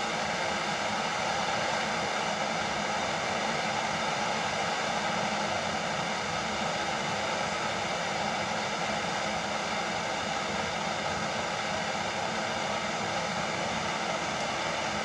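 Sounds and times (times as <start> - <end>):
propane torch hissing: 0.0 - 15.0.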